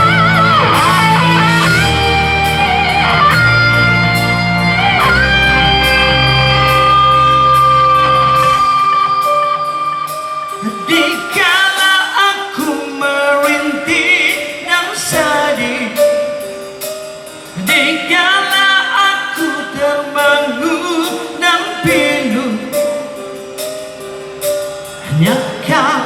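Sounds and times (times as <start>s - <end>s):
person singing: 0.0s - 16.6s, 17.5s - 23.7s, 24.4s - 26.0s
live rock band playing: 0.0s - 26.0s.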